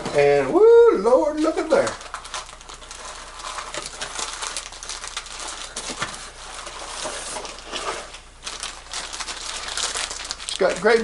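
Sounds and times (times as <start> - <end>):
plastic bag crinkling: 1.1 - 11.0.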